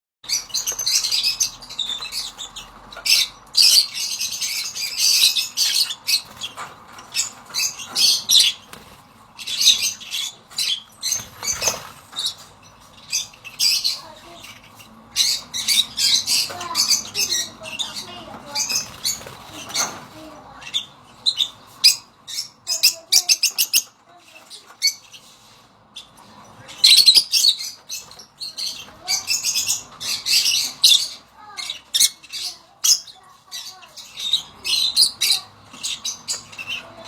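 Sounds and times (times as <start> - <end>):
lovebirds chattering and squawking: 0.2 - 37.0.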